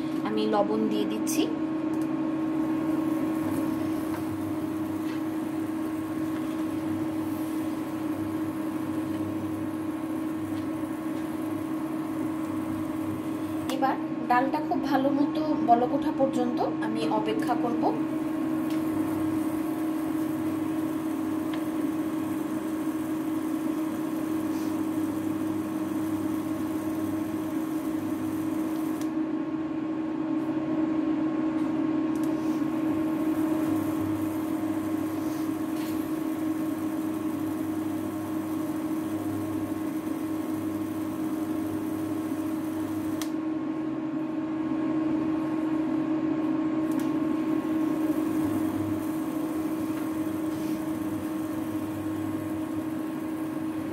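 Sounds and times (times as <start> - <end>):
cooling fan running: 0.0 - 53.9
induction cooktop hum: 0.0 - 53.9.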